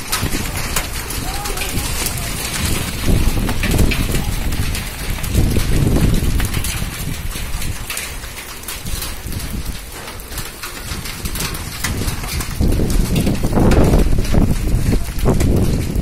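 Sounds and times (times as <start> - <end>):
hailstones ticking on ground: 0.0 - 16.0
wind gusts on microphone: 0.0 - 16.0.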